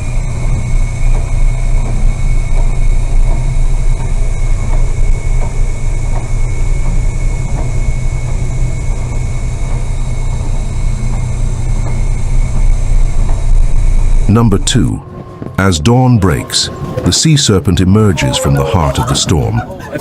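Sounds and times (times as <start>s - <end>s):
boat engine low rumble: 0.0s - 20.0s
thin steady whine: 0.0s - 20.0s.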